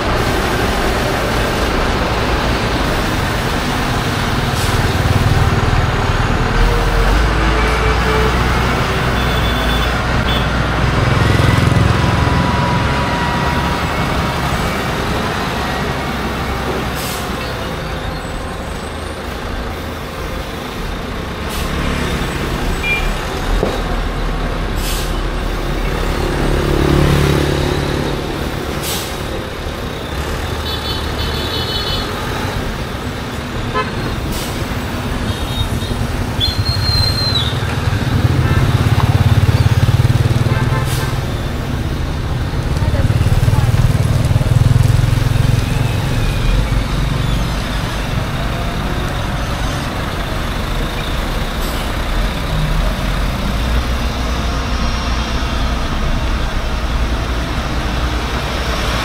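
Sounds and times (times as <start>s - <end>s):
road noise: 0.0s - 59.0s
vehicle engine: 0.0s - 59.0s.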